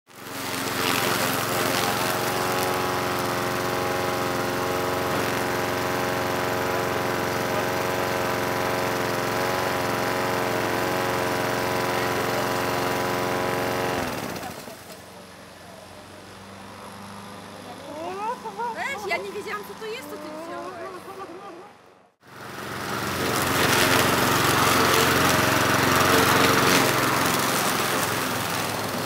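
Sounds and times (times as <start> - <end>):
lawn mower engine running: 0.1 - 29.0.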